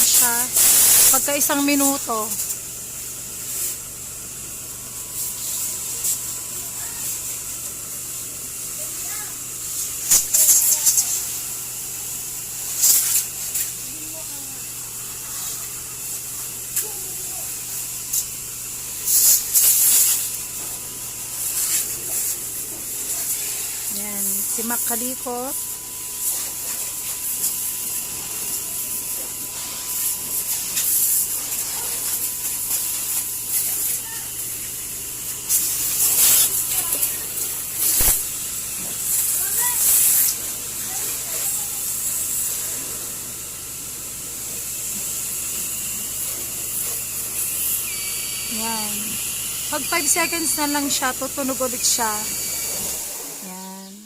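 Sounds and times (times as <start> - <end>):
pressure hose spraying water: 0.0 - 54.0.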